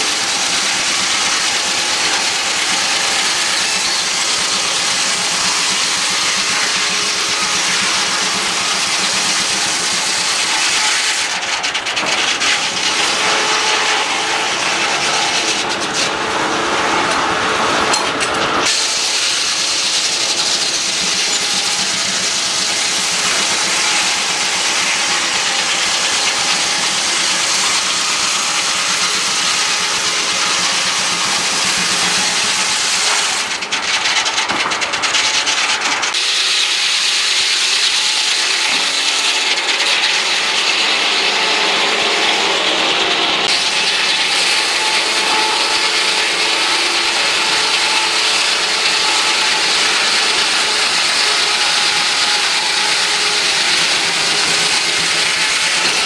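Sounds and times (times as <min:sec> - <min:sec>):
circular saw cutting log: 0:00.0 - 0:56.0
sawmill engine running: 0:00.0 - 0:56.0.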